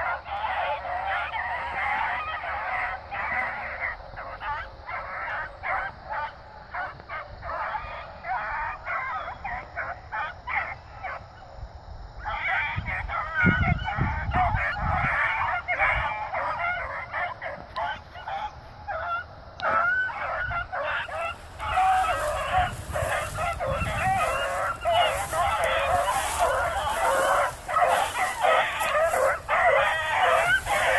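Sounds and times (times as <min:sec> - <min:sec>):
beagles baying: 0:00.0 - 0:11.4, 0:12.2 - 0:30.9.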